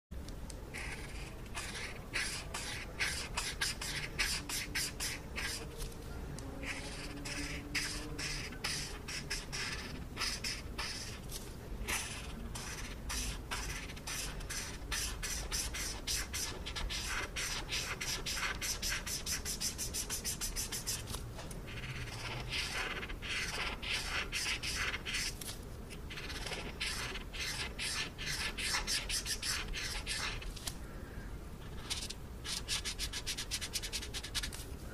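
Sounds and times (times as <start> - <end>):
felt-tip marker scratching on paper: 0.7 - 5.8, 6.6 - 21.1, 21.7 - 25.4, 26.1 - 30.5, 31.6 - 34.6.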